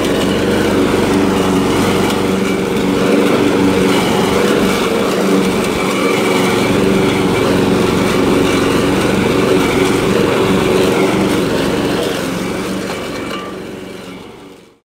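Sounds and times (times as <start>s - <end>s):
lawn mower engine cutting grass: 0.0s - 14.8s.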